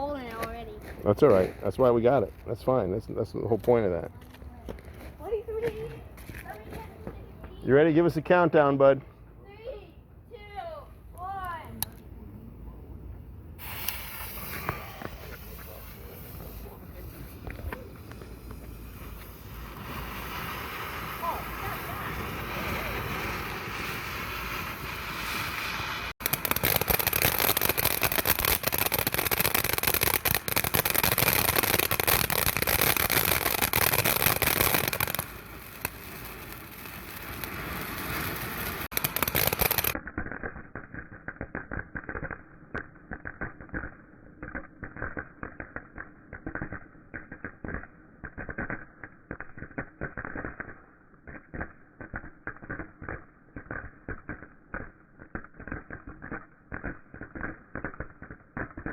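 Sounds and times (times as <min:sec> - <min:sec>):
firework spraying and crackling: 0:00.0 - 0:12.0, 0:13.6 - 0:58.9.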